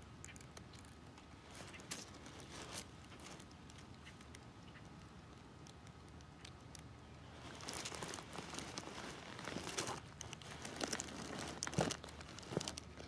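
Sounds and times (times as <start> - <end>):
faint ticks and rustles: 0.0 - 13.0.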